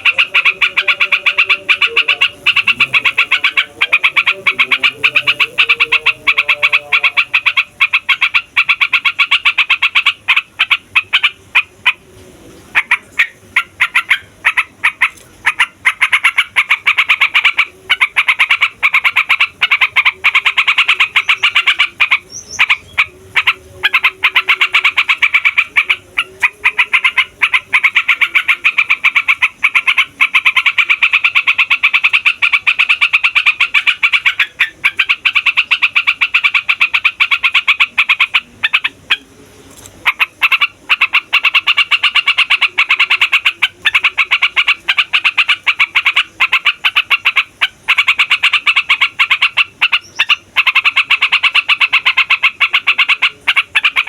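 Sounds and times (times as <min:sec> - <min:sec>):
bulbul singing rapid notes: 0:00.0 - 0:12.0, 0:12.8 - 0:39.3, 0:40.0 - 0:54.0.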